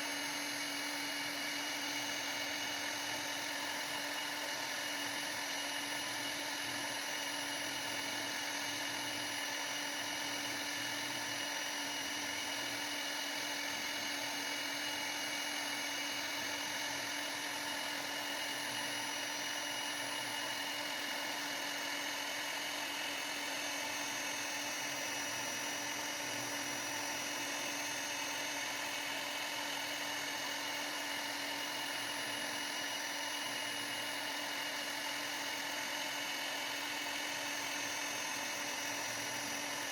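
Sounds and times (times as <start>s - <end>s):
router spindle high-pitched whine: 0.0s - 39.9s.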